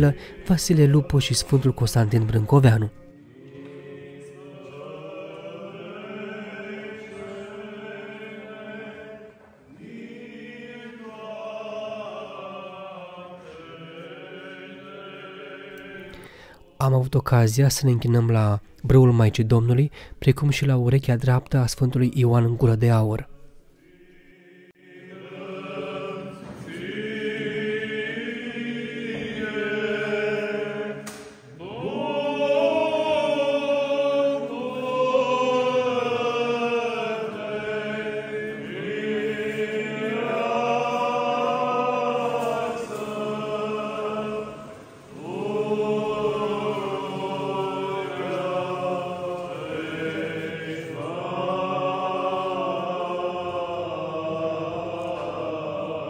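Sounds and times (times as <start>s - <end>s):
choir chanting: 0.0s - 17.1s, 23.7s - 56.0s.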